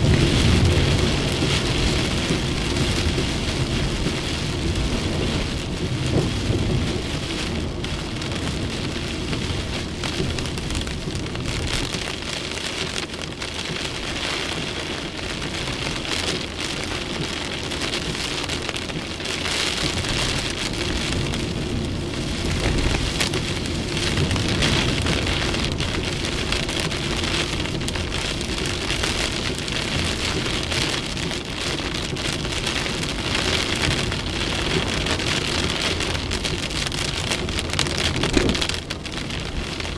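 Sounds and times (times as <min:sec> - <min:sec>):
heavy rain pouring: 0:00.0 - 0:39.9
thunder rumbles: 0:00.0 - 0:39.9.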